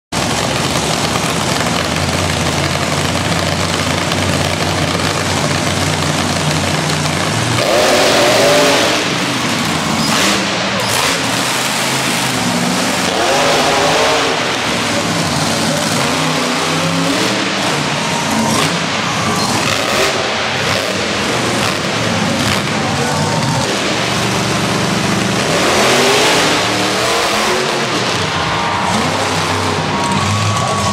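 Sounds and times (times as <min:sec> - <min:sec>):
monster truck engine revving: 0:00.1 - 0:30.9.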